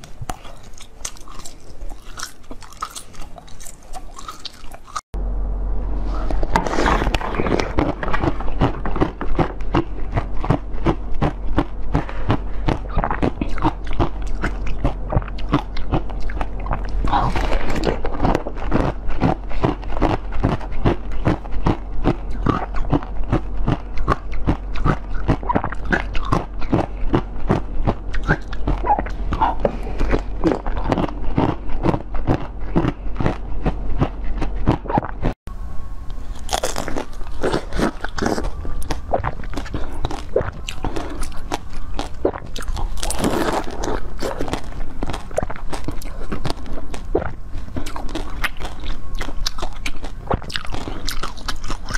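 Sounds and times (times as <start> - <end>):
jelly chewing and squelching: 0.0 - 5.1, 6.0 - 35.4, 36.1 - 51.9.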